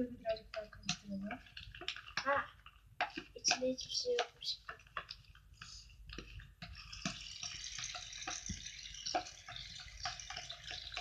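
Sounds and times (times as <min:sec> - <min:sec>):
small foam pops: 0:00.8 - 0:11.0.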